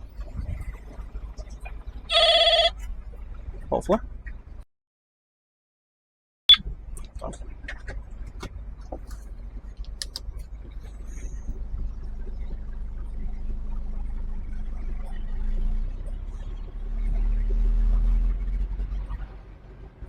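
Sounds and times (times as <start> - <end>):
diesel truck engine rumbling: 0.0 - 4.6, 6.5 - 20.0.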